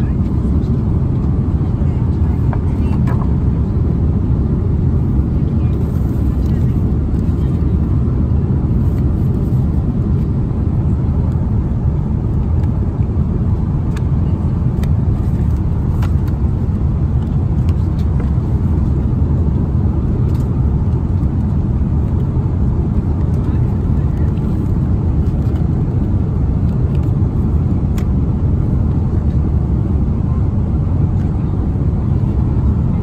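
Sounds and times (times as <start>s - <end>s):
airplane cabin engine roar: 0.0s - 33.0s.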